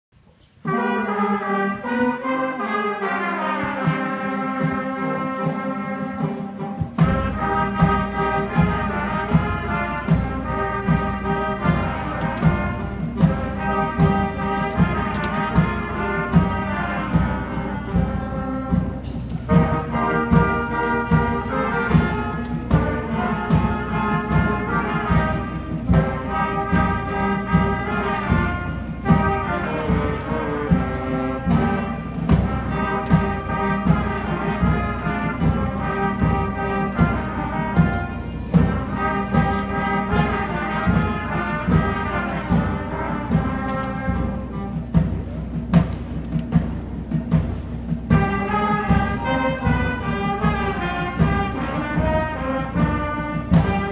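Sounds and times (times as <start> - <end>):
concert band playing: 0.3 - 53.9
percussion beat: 5.6 - 53.9.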